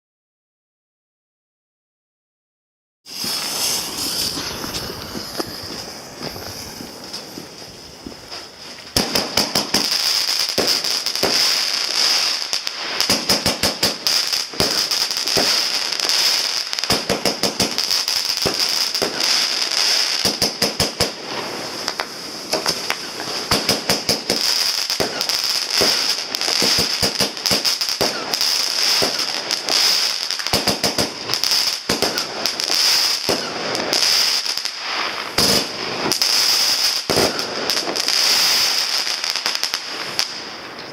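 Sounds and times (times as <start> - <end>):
firework launches and bursts: 3.1 - 40.8
firework crackling: 3.1 - 40.9.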